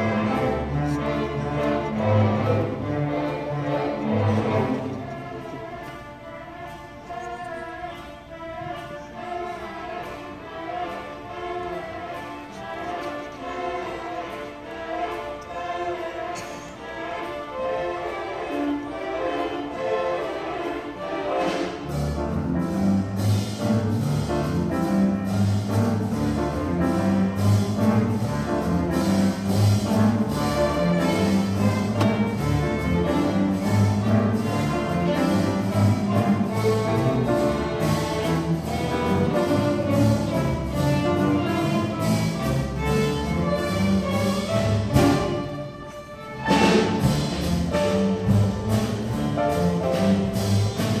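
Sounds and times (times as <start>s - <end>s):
string orchestra playing: 0.0s - 51.0s.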